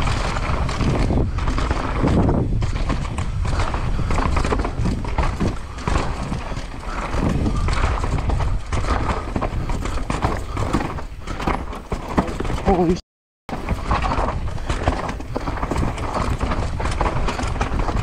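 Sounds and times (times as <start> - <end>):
mountain bike clattering and rattling: 0.0 - 12.9, 13.5 - 18.0
tyres rumbling: 3.4 - 18.0.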